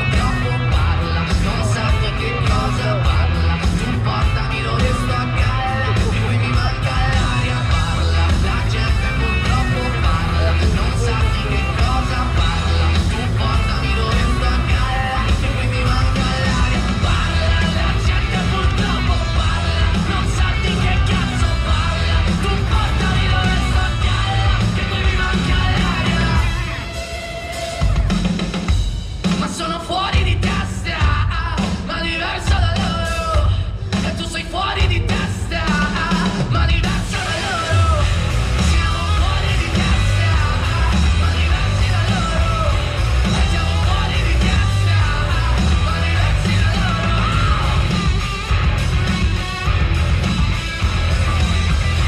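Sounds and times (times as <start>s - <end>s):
driving drum beat: 0.0s - 52.0s
loud rock music: 0.0s - 52.0s.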